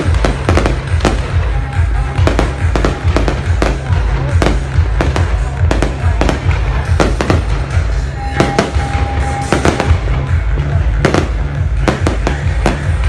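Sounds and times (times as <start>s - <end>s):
fireworks bursting: 0.0s - 13.0s
music with low pulsing beat: 0.0s - 13.0s.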